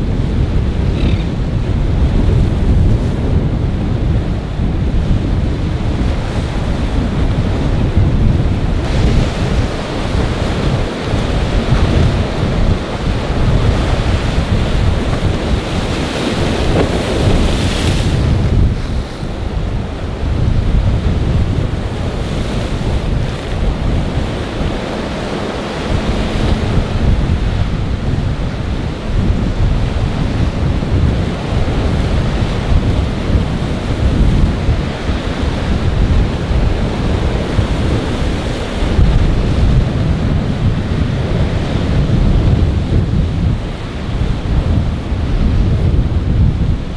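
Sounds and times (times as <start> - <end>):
sea waves breaking: 0.0 - 46.9
wind buffeting microphone: 0.0 - 46.9.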